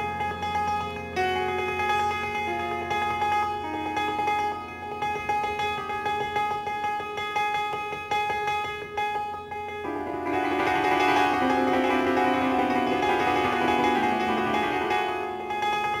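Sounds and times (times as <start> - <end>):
solo jazz piano: 0.0 - 16.0.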